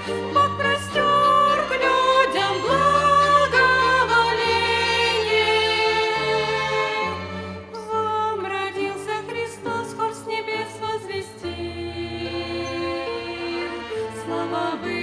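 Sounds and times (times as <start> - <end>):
violin ensemble: 0.0 - 15.0.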